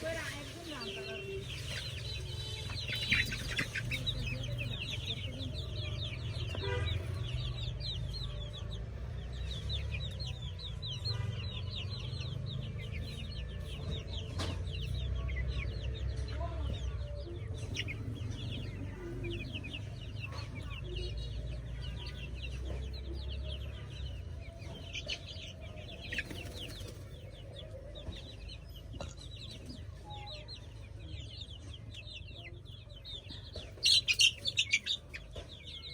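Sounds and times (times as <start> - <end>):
chickens peeping: 0.0 - 35.9.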